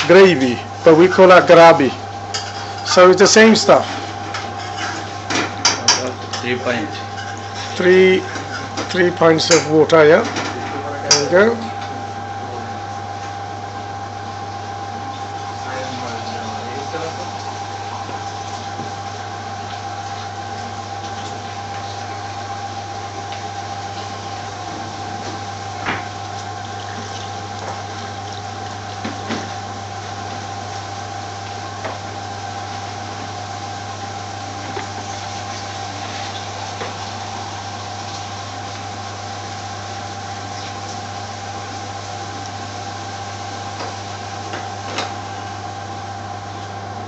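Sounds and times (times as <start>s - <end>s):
machine hum with whine: 0.0s - 47.0s.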